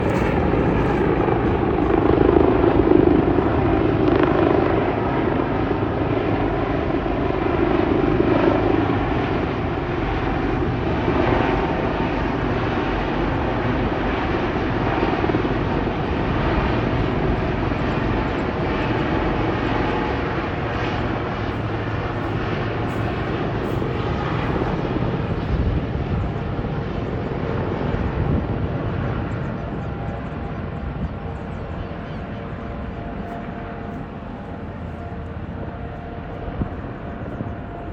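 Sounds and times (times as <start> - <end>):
helicopter rotor and turbine drone: 0.0 - 37.9.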